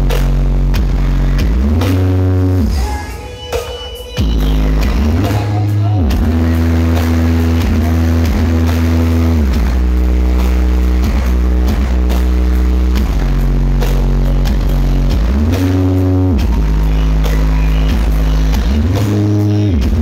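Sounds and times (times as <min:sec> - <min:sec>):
loud bass-heavy music: 0:00.0 - 0:20.0.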